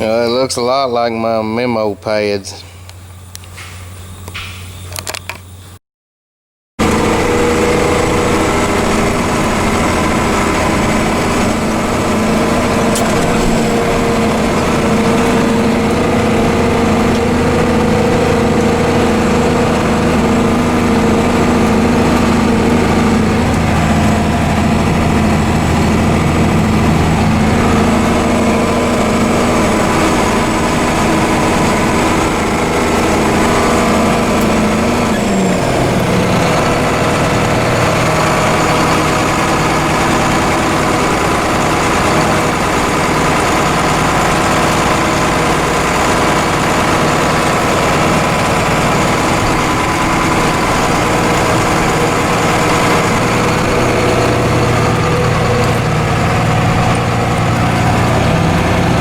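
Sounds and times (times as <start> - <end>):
heavy engine running: 0.0 - 5.7, 6.8 - 59.0.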